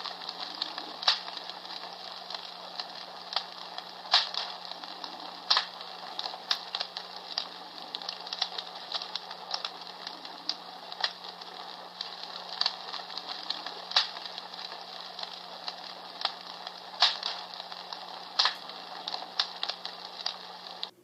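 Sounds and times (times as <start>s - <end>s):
fireplace crackling from small speaker: 0.0s - 21.0s.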